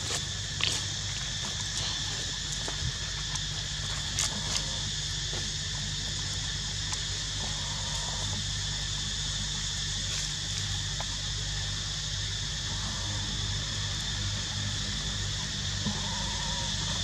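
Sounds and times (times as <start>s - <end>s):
insects droning: 0.0s - 17.0s
low steady hum: 0.0s - 17.0s.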